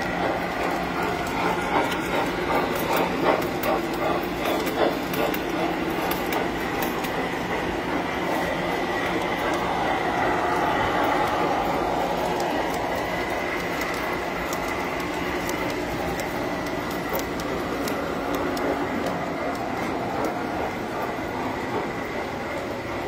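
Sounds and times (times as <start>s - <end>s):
model train wheels rattling on rails: 0.0s - 23.0s.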